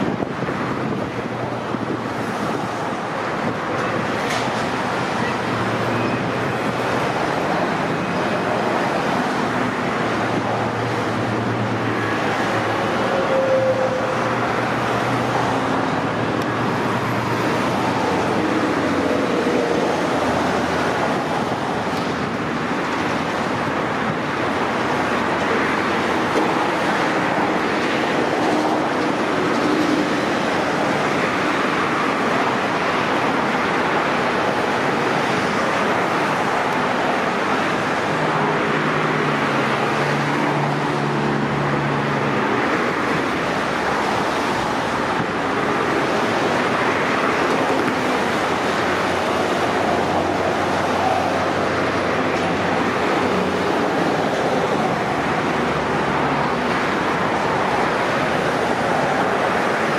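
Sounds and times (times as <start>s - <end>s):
freeway traffic passing: 0.0s - 59.9s.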